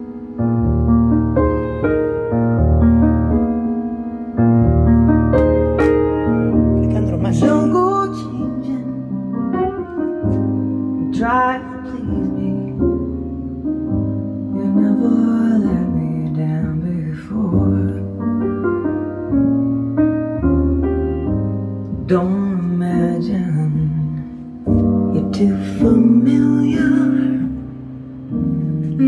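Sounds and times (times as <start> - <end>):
held keyboard chords: 0.0 - 29.0.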